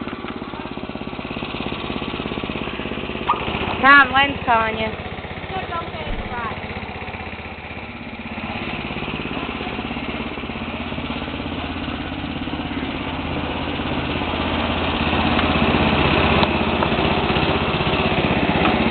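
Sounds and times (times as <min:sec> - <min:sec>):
snowblower engine running: 0:00.0 - 0:18.9.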